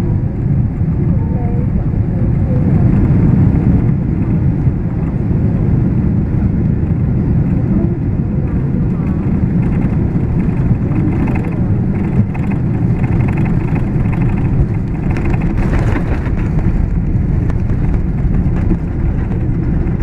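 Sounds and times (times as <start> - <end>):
aircraft landing roll rumble: 0.0 - 20.0.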